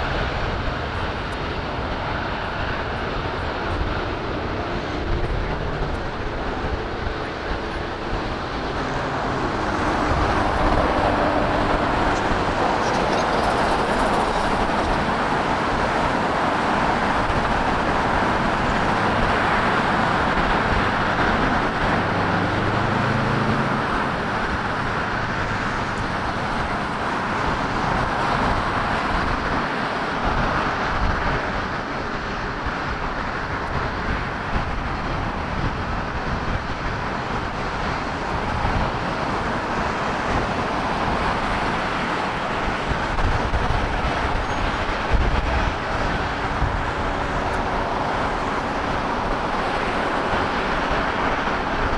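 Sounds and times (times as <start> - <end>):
jet engines rumbling: 0.0 - 51.9
road traffic: 0.0 - 51.9.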